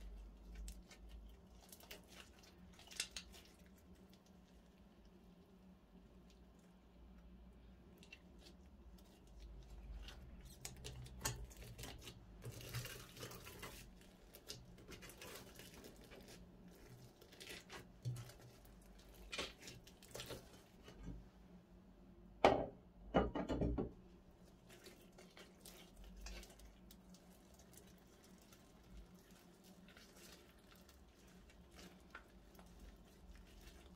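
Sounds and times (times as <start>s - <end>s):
slime squelches: 0.0s - 21.1s, 24.2s - 33.9s.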